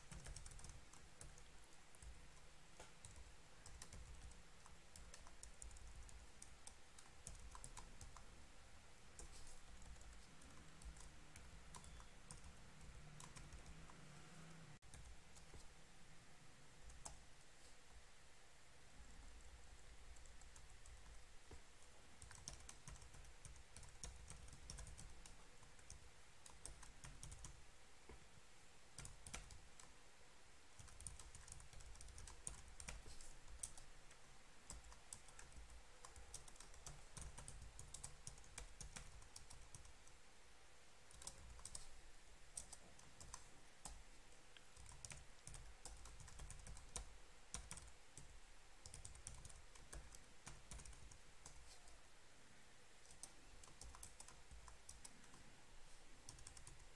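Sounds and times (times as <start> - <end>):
keyboard typing: 0.0 - 8.3, 9.1 - 15.6, 16.8 - 17.2, 20.1 - 21.6, 22.2 - 27.6, 28.9 - 30.0, 30.8 - 40.2, 41.1 - 42.0, 42.6 - 52.0, 53.0 - 55.4, 56.3 - 56.9.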